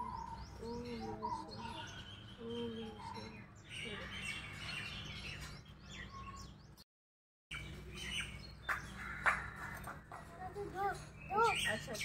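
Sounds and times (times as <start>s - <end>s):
small birds chirping: 0.0s - 6.9s, 7.5s - 12.0s.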